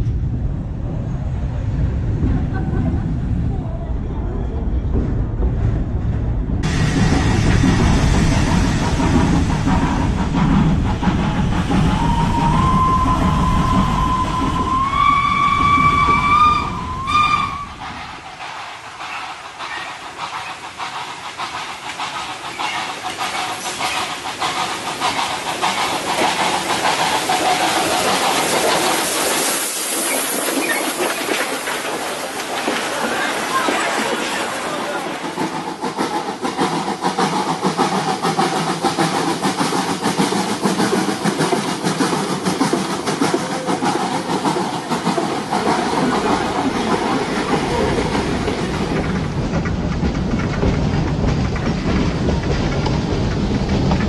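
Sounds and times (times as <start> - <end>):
train running past: 0.0 - 54.0
wheels clattering over rails: 4.8 - 54.0.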